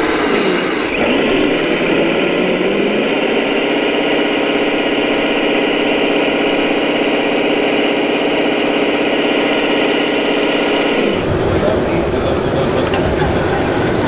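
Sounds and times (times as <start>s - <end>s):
simulated diesel engine idling: 0.0s - 13.7s.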